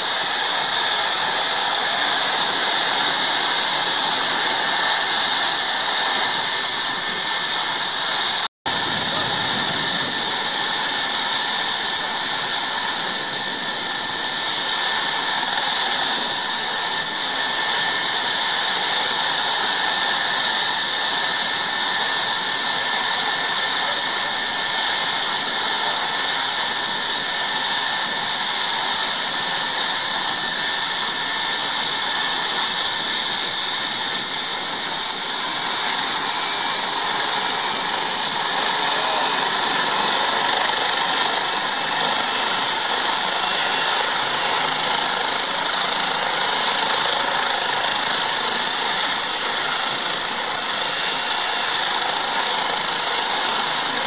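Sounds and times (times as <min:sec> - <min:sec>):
helicopter turbine engines idling: 0:00.0 - 0:54.0.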